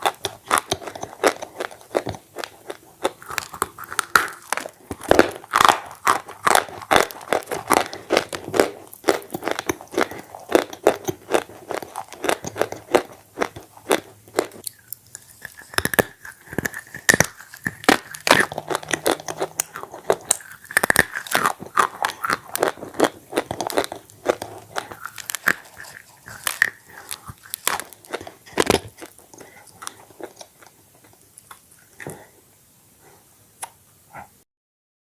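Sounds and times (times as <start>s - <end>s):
crunchy chewing: 0.0s - 32.4s.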